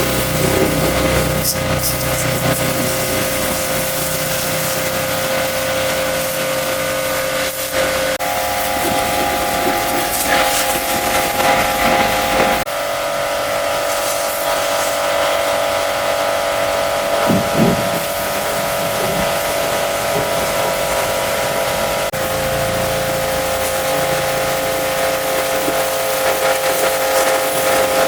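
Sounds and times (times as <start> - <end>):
spray hissing: 0.0 - 12.6, 13.8 - 15.3, 17.1 - 28.0
pressure washer pump whining: 0.0 - 28.0.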